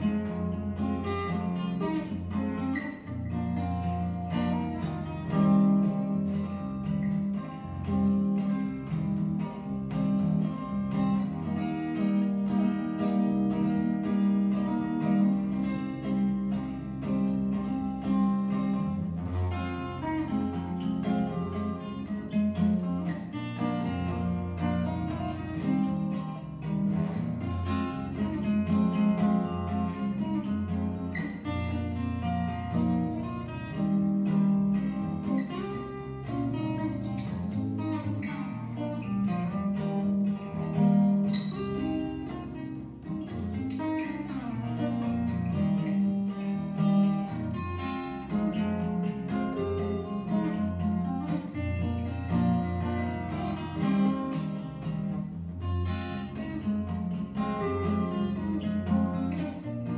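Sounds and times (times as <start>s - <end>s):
solo acoustic guitar: 0.0s - 59.9s.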